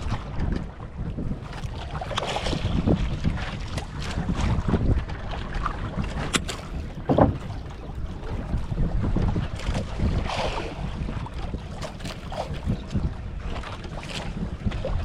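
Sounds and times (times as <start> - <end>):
water slapping against boat hull: 0.0 - 15.0
wind buffeting microphone: 0.0 - 15.0.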